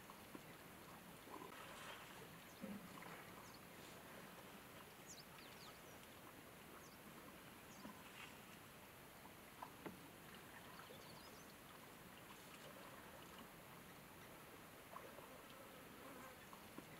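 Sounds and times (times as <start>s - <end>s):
faint outdoor hiss: 0.0s - 16.9s.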